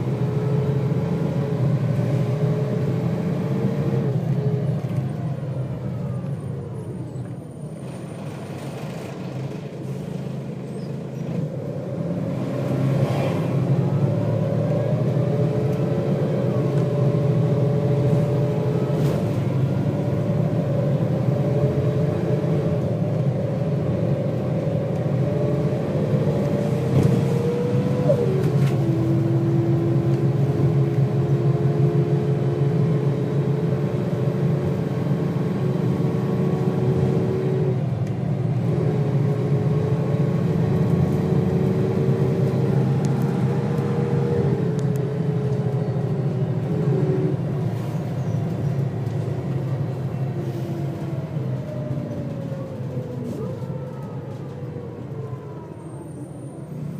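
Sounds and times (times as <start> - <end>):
bus diesel engine rumbling: 0.0 - 56.9.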